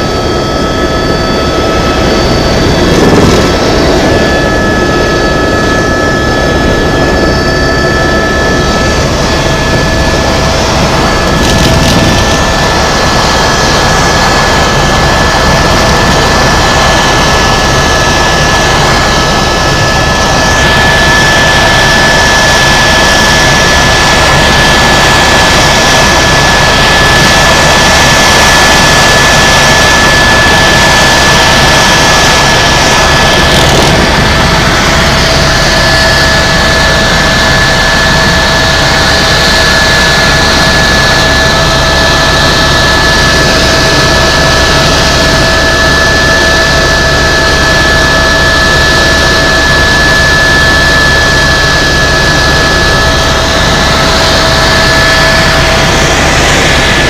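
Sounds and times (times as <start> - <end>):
helicopter rotor and turbine: 0.0 - 57.0.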